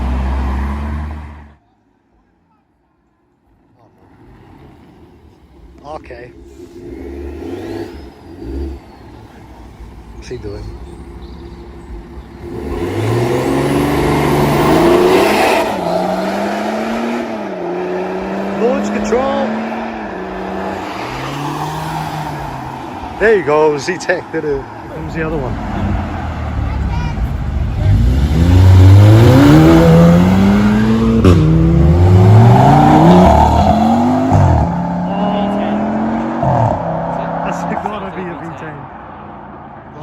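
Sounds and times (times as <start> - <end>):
car engine revving: 5.7 - 39.0.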